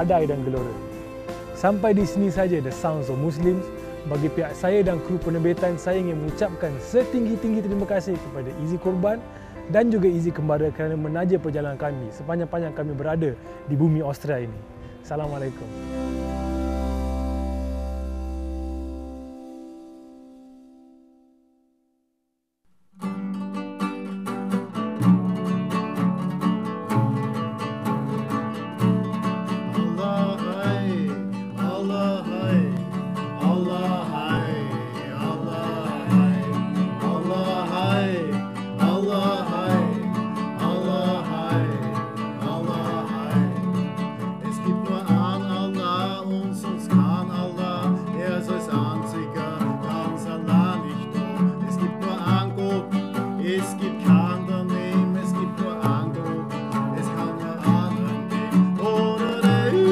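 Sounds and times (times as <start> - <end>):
plucked string music: 0.0 - 21.5, 22.9 - 59.9.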